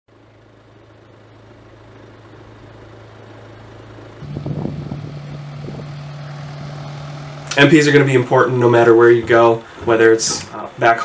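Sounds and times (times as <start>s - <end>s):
car engines running: 0.3s - 11.0s.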